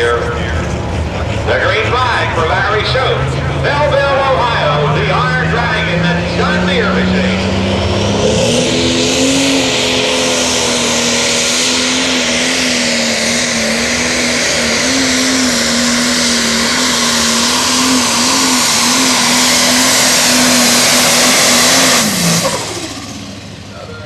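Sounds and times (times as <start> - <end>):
thick rushing noise: 0.0 - 24.0
tractor diesel engine under full load: 0.0 - 24.0.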